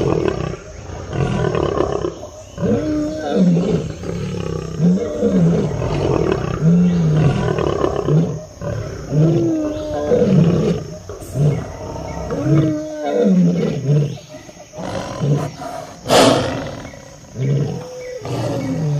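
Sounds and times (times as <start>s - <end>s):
lion roaring: 0.0s - 18.9s.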